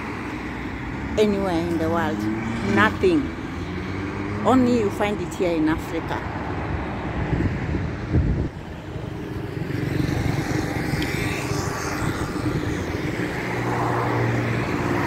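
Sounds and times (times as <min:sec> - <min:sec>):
engine hum: 0:00.0 - 0:15.0
vehicles passing: 0:00.0 - 0:15.0.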